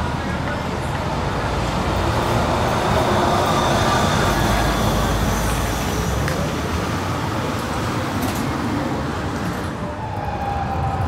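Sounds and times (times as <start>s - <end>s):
traffic rumble and road noise: 0.0s - 11.0s
tram rolling past: 0.0s - 11.0s.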